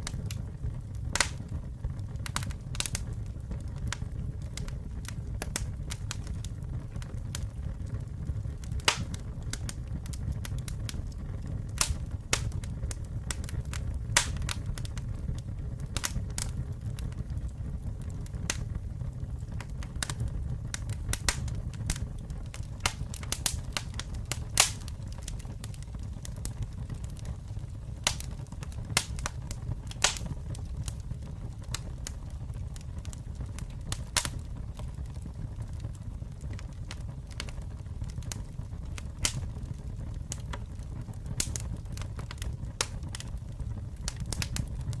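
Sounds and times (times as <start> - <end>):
low rumble of flames: 0.0 - 45.0
wood crackling and popping: 0.0 - 45.0.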